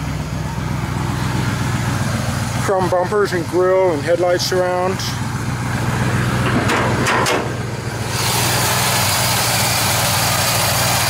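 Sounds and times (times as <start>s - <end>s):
pickup truck engine idling: 0.0s - 11.0s.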